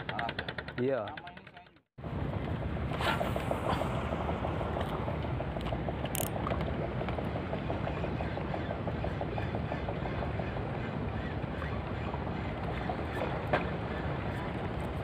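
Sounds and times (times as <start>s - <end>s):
motor engine chugging: 0.0s - 14.9s.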